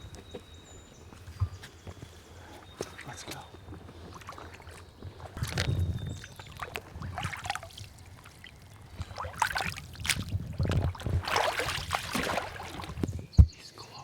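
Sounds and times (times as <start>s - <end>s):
creek water running: 0.0s - 13.3s.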